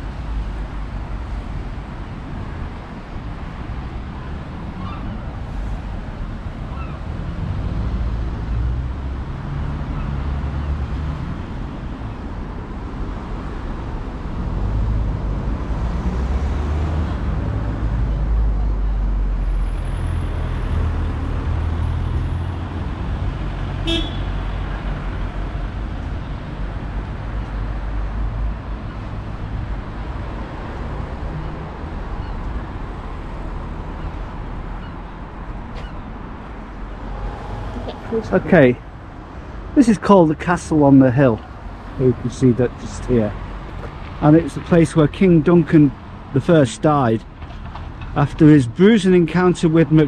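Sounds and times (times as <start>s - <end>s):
cars passing on wet road: 0.0s - 50.0s.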